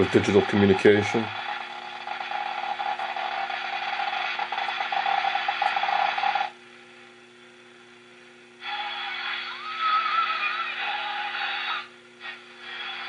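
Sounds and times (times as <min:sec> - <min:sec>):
choppy chattering radio data tone: 0:00.0 - 0:06.6, 0:08.6 - 0:13.0
radio static: 0:00.0 - 0:06.6, 0:08.6 - 0:13.0
low hum and hiss: 0:00.0 - 0:13.0.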